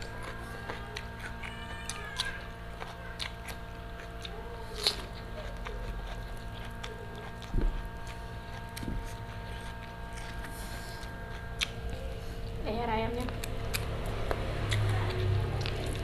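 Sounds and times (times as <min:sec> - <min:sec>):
chewing: 0:00.0 - 0:12.6, 0:13.3 - 0:16.0
steady hum: 0:00.0 - 0:16.0.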